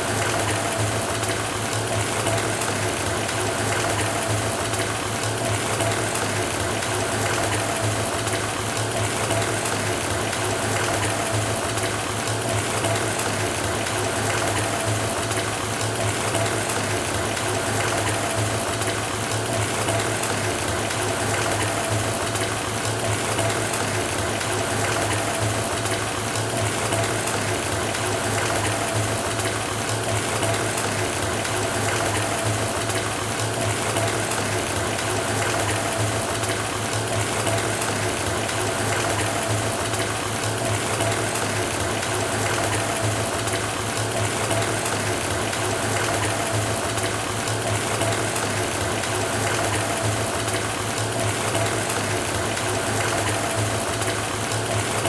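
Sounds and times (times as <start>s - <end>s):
water pouring into bathtub: 0.0s - 55.0s.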